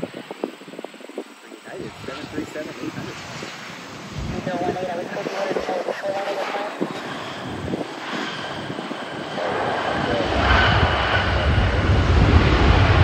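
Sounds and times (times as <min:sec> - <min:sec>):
jet engines whining: 0:00.0 - 0:13.0
deep rumble: 0:01.7 - 0:13.0.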